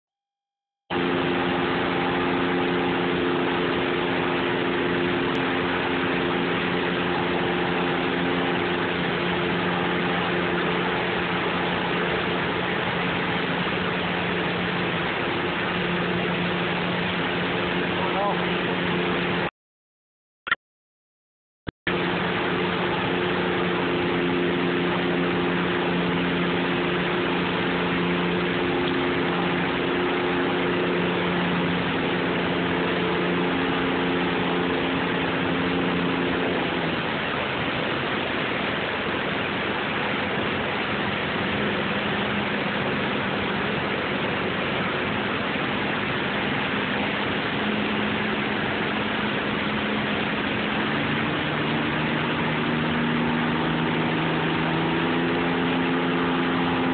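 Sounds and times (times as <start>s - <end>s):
heavy engine running: 0.9s - 19.5s, 21.9s - 56.9s
water rushing over dam: 0.9s - 19.5s, 21.9s - 56.9s.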